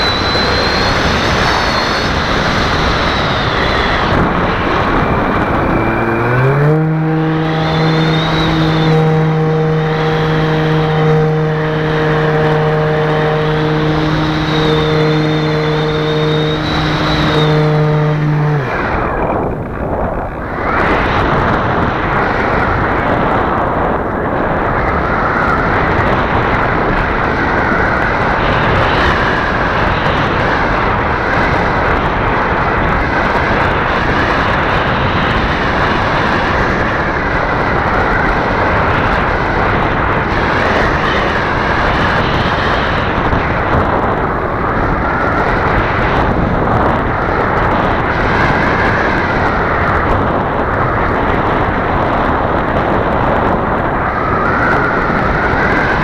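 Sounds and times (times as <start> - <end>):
model plane motor and propeller drone: 0.0 - 56.0
rush of air: 0.0 - 56.0.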